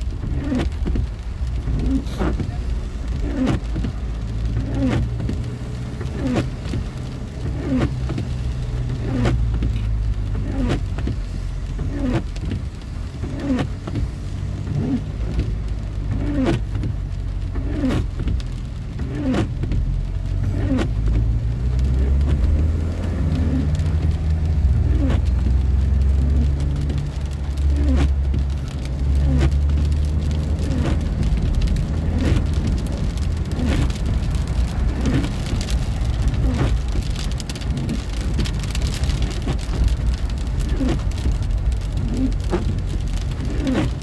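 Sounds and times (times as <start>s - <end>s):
car engine and road rumble: 0.0s - 44.0s
windscreen wipers sweeping: 0.0s - 44.0s.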